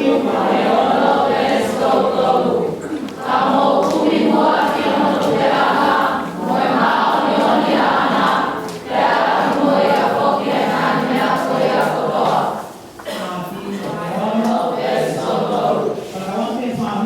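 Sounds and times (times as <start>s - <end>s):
vocal group singing in harmony: 0.0s - 13.2s, 13.9s - 16.2s.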